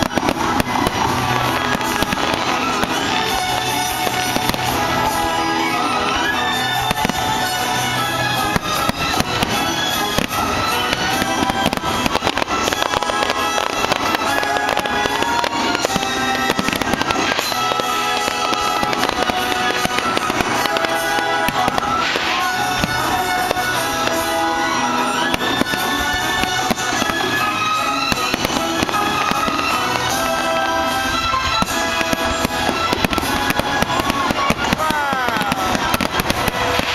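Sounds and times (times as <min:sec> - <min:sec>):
fireworks bangs and crackles: 0:00.0 - 0:36.9
music: 0:00.0 - 0:36.9.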